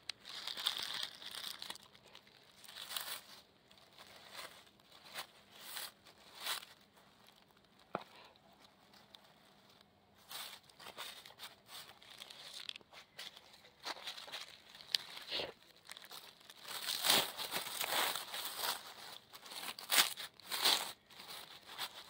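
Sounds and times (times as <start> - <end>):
pine needles and leaves rustling: 0.0 - 22.0.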